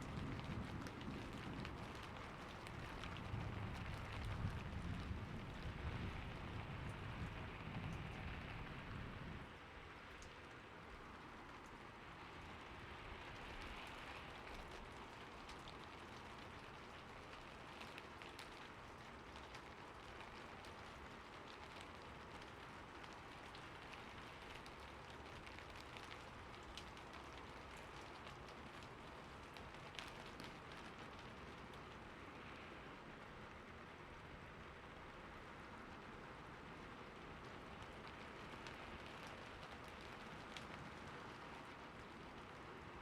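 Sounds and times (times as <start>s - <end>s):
faint steady rain: 0.0s - 43.0s
raindrops ticking on a surface: 0.0s - 43.0s.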